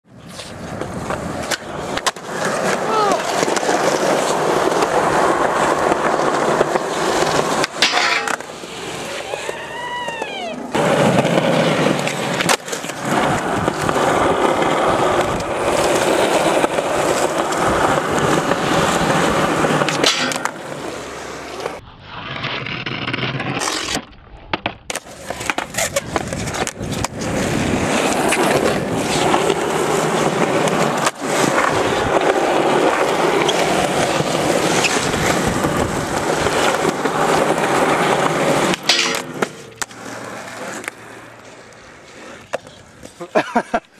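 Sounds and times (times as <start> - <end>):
skateboard wheels rolling on concrete: 0.0 - 43.9
skateboard clacks: 0.3 - 21.8, 23.0 - 43.9.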